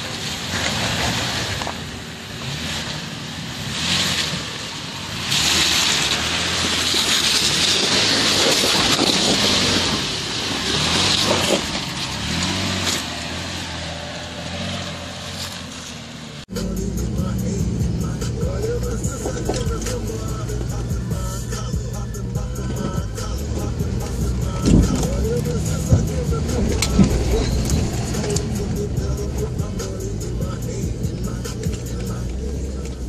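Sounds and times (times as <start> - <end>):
engine running under load: 0.0 - 33.0
tyres crunching on dirt and rock: 0.0 - 33.0.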